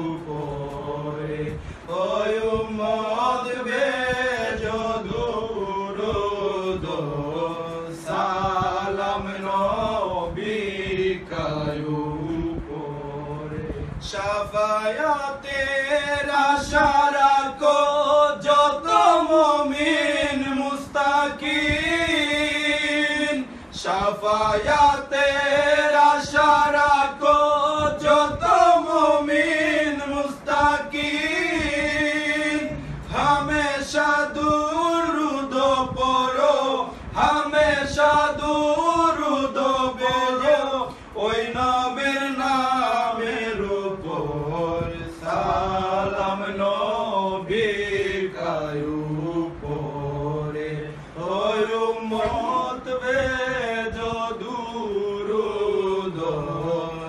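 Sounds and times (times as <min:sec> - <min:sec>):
men singing together unaccompanied: 0:00.0 - 0:57.0.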